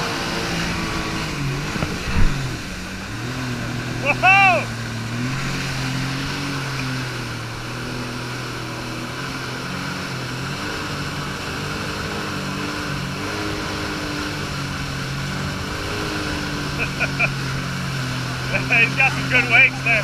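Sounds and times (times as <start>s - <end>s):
jet ski engine: 0.0s - 20.0s
rush of spray and wind: 0.0s - 20.0s.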